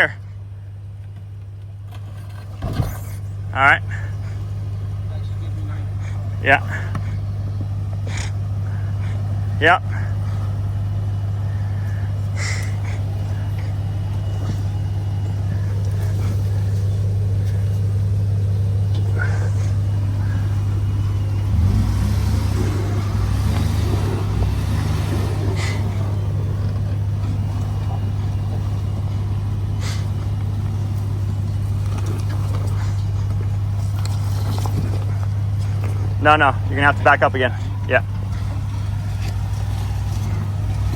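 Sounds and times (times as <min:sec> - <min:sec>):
truck engine at low revs: 0:00.0 - 0:40.9.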